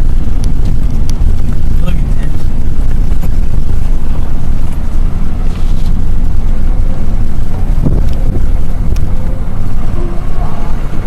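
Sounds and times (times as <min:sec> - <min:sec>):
car engine and road noise: 0:00.0 - 0:11.0
wind on microphone: 0:00.0 - 0:11.0.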